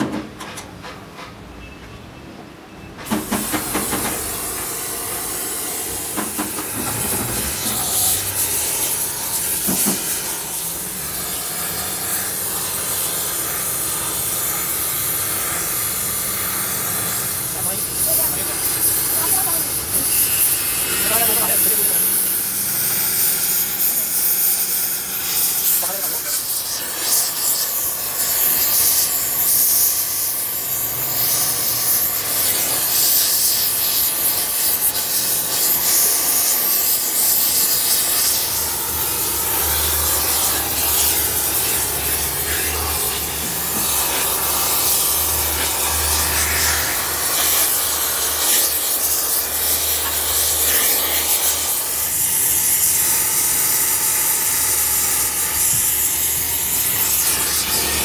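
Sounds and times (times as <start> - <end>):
welding torch flame hissing: 3.0 - 58.0.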